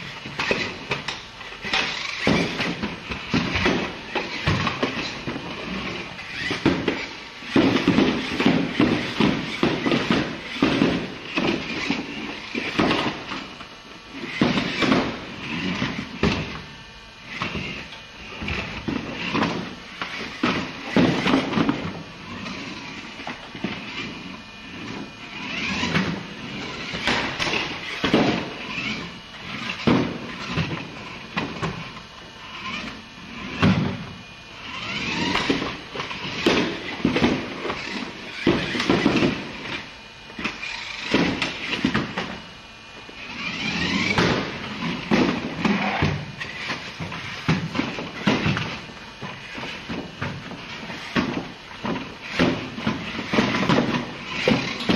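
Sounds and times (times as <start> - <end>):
small electric motor whirring: 0.0 - 42.4, 43.0 - 47.5, 48.2 - 49.9, 52.2 - 54.9.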